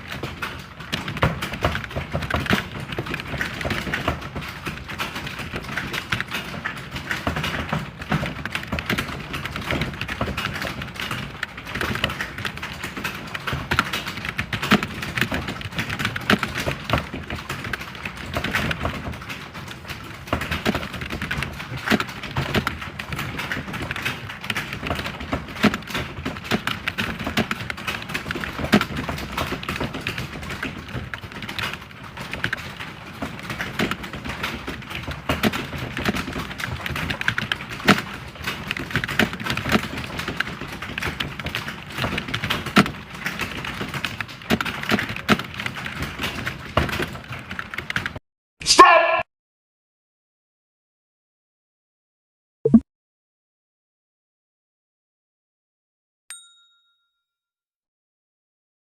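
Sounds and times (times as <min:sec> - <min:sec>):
fast typing on computer keyboard: 0:00.0 - 0:48.2.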